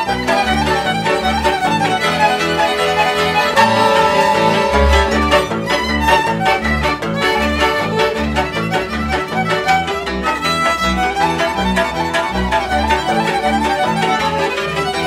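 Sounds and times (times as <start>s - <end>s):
accordion: 0.0s - 15.0s
hammered dulcimer: 0.0s - 15.0s
violin melody: 0.0s - 15.0s
double bass: 0.2s - 15.0s.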